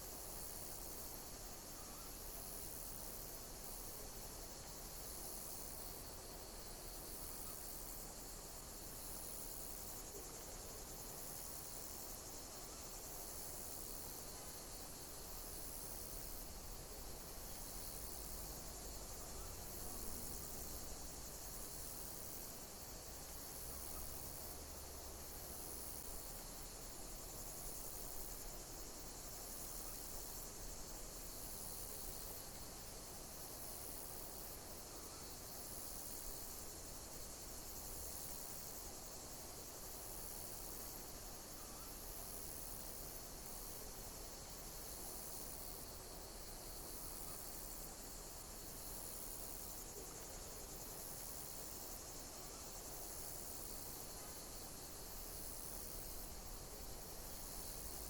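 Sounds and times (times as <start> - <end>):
steady low hiss: 0.0 - 58.0
insects chirping: 0.1 - 58.0.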